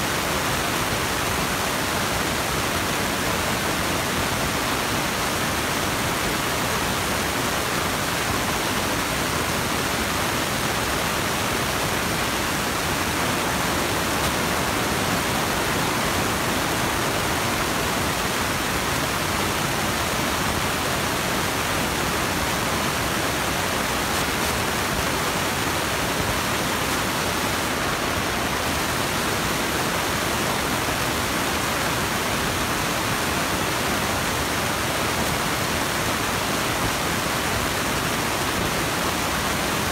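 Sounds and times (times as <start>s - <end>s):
steady rushing hiss: 0.0s - 39.9s.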